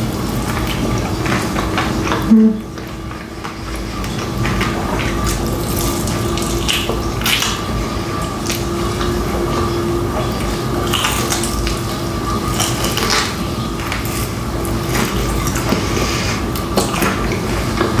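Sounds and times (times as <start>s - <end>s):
crunching fried chicken: 0.0s - 18.0s
steady background hum: 0.0s - 18.0s.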